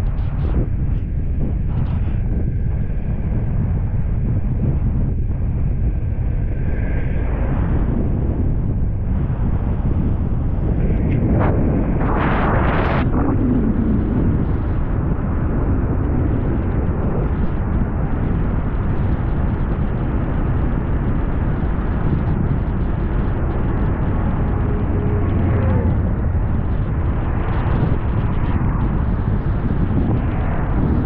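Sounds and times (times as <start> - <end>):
road and wind noise: 0.0 - 31.0
rush of noise: 0.0 - 31.0.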